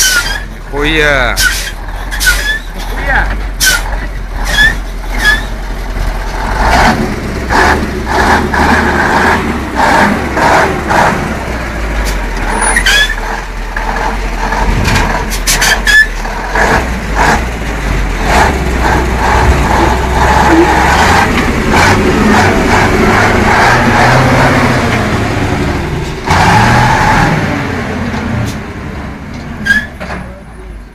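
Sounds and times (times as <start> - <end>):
diesel truck engine under load: 0.0 - 30.9.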